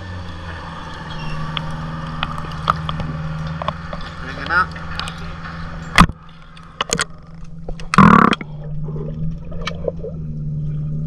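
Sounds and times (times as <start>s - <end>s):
steady low hum: 0.0s - 11.0s
water sloshing and gurgling: 0.0s - 11.0s.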